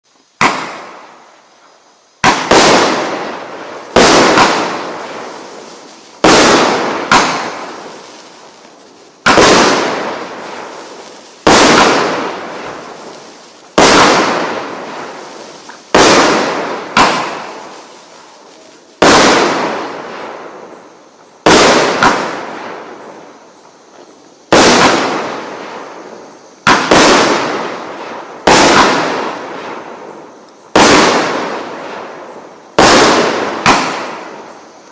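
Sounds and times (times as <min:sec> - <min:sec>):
firework bangs: 0:00.3 - 0:34.9.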